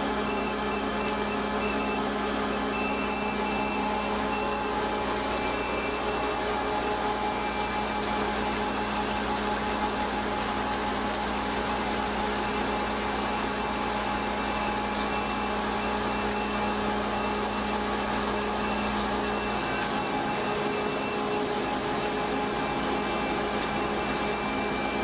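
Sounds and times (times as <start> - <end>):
feed auger mechanical hum: 0.0 - 25.0.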